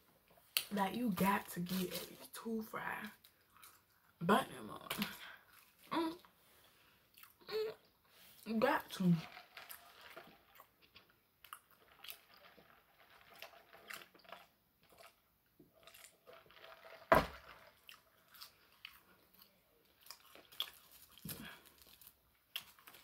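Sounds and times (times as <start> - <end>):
chewing and crunching food: 0.3 - 2.4, 3.0 - 4.2, 4.8 - 23.0.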